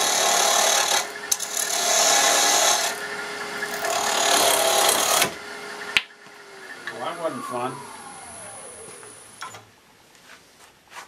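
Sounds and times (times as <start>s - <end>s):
lathe tool scraping wood: 0.0s - 9.4s
faint lathe hum: 0.0s - 9.8s.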